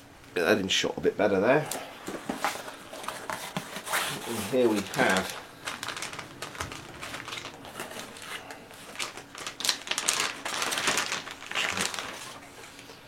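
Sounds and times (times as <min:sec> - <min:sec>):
plastic packaging crinkling: 0:02.5 - 0:13.0.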